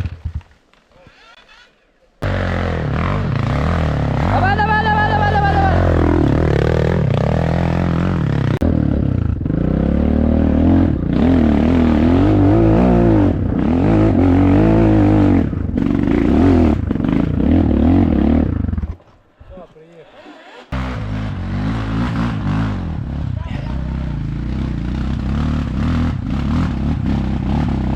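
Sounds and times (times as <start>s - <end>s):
dirt bike engine revving: 2.2s - 19.0s, 20.4s - 27.9s.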